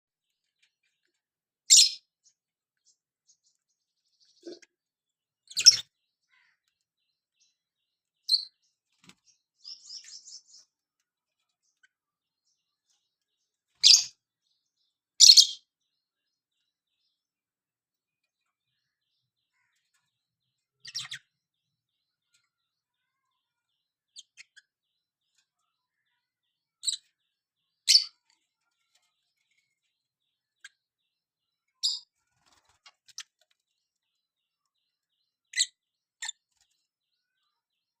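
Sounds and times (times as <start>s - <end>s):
lovebirds chirping: 0.2s - 4.8s, 5.5s - 17.3s, 18.2s - 38.0s.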